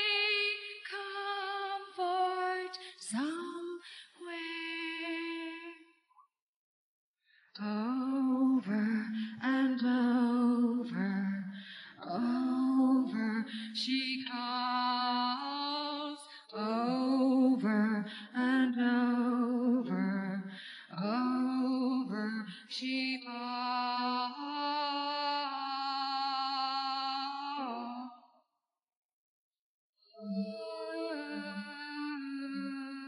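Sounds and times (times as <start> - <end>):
woman singing slow melody: 0.0 - 5.9, 7.6 - 28.3, 30.1 - 33.0.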